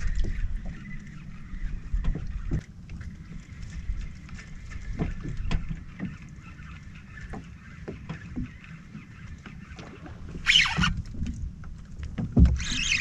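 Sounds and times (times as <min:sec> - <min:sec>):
waves lapping against hull: 0:00.0 - 0:13.0.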